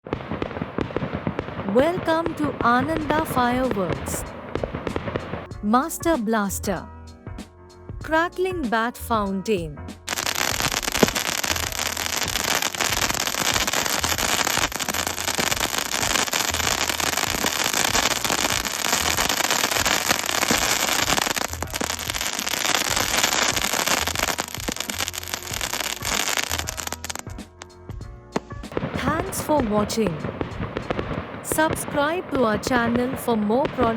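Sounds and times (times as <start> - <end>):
firework crackling and popping: 0.0 - 5.6, 10.1 - 27.8, 28.4 - 33.9.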